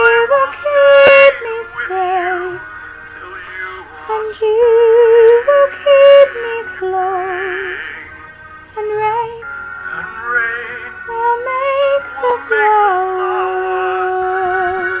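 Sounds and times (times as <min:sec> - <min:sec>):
musical accompaniment: 0:00.0 - 0:15.0
person singing with vibrato: 0:00.0 - 0:15.0.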